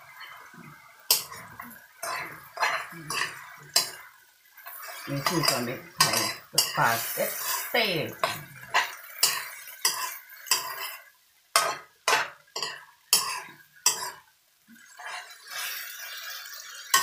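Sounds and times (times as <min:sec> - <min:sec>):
soft stirring rustle: 0:00.0 - 0:17.0
metal utensil scraping wok: 0:01.1 - 0:14.2, 0:14.9 - 0:17.0.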